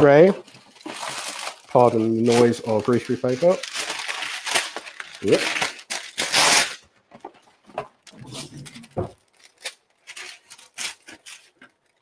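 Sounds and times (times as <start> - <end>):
baking paper crinkling: 0.0 - 6.9, 8.0 - 12.0.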